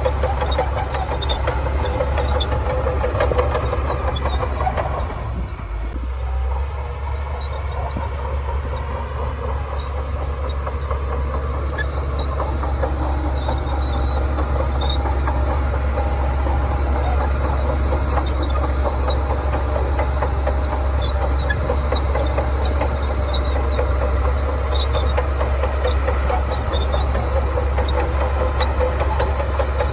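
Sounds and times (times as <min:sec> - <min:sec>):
steel tracks clattering: 0:00.0 - 0:06.0, 0:07.2 - 0:29.9
bulldozer diesel engine under load: 0:00.0 - 0:29.9.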